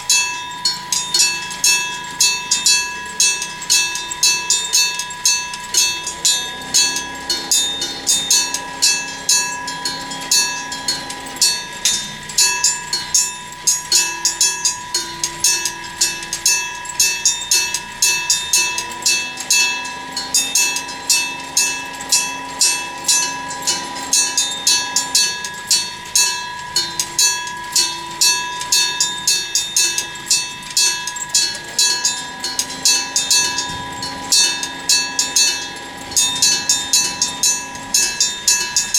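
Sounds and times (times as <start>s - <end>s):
level crossing bell ringing: 0.0s - 38.9s.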